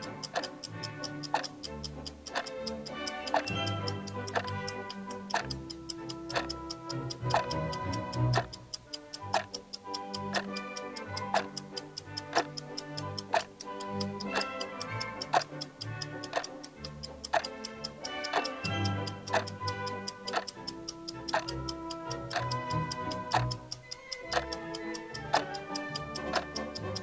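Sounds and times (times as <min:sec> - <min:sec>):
background music with held notes: 0:00.0 - 0:27.0
clock ticking: 0:00.0 - 0:27.0.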